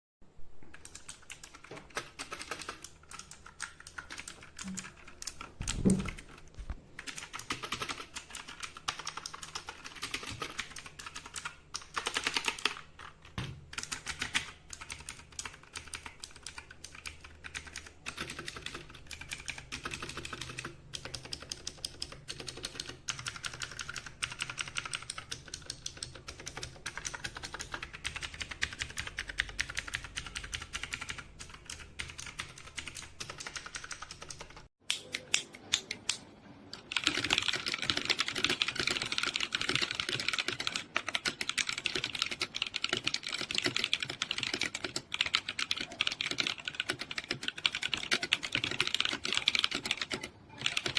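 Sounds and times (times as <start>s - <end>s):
fast typing on mechanical keyboard: 0.7s - 34.7s, 36.8s - 50.9s.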